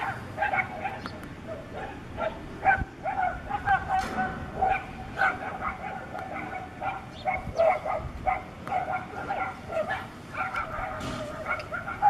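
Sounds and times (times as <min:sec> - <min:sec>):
dog giving high-pitched cries: 0:00.0 - 0:12.0.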